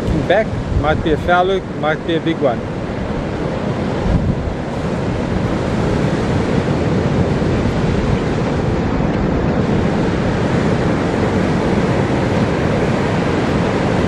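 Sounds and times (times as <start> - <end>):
ocean surf breaking on beach: 0.0 - 14.0
wind buffeting microphone: 0.0 - 14.0.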